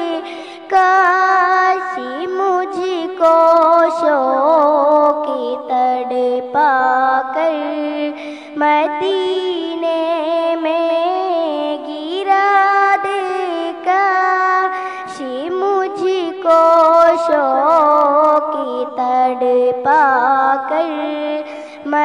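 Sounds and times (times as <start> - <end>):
girl singing into a microphone: 0.0 - 22.0.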